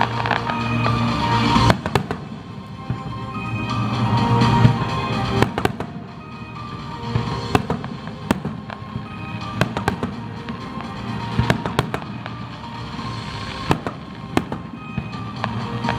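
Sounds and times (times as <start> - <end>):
background music: 0.0 - 15.9
fireworks bangs and crackles: 0.0 - 15.9.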